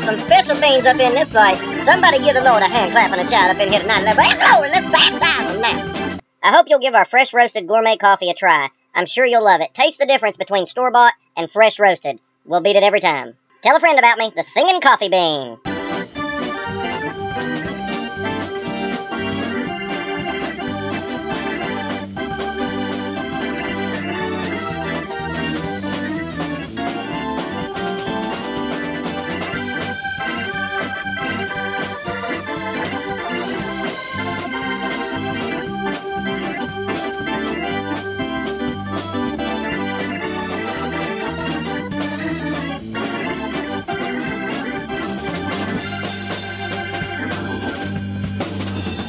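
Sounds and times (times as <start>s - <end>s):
organ music: 0.0s - 6.2s, 15.6s - 49.0s
steady drum beat: 0.0s - 6.2s, 15.7s - 49.0s.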